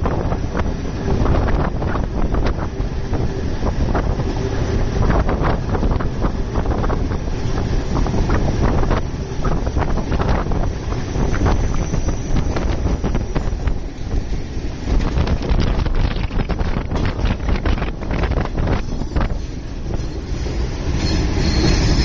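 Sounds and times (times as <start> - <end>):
train wheels rumbling on rails: 0.0 - 22.0
wind buffeting microphone: 0.0 - 22.0.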